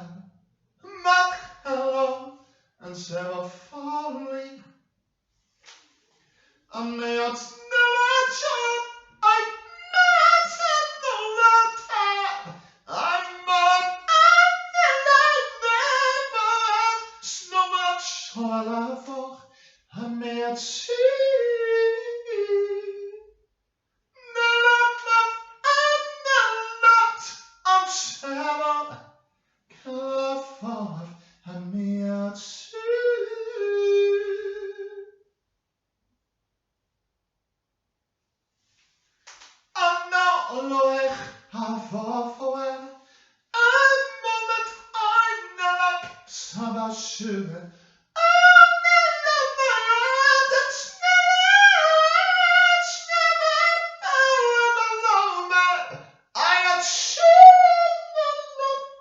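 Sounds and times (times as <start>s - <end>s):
person singing unaccompanied: 0.8s - 4.6s, 6.7s - 19.4s, 20.0s - 23.2s, 24.2s - 29.0s, 29.8s - 35.1s, 39.8s - 42.9s, 43.6s - 59.0s.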